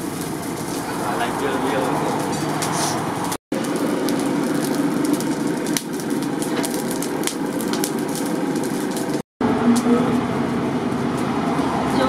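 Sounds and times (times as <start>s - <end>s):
crackling coals: 0.0s - 12.0s
forge fire roaring: 0.0s - 12.0s.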